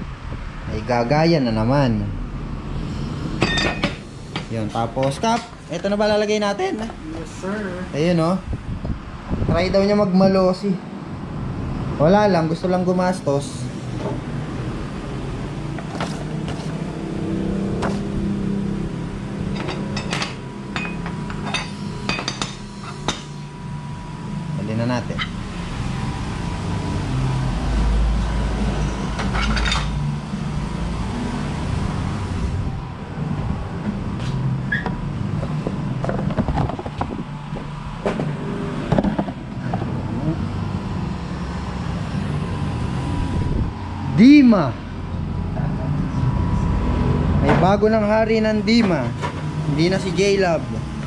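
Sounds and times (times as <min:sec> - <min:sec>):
road traffic rumble: 0:00.0 - 0:51.0
steady low hum: 0:00.0 - 0:51.0.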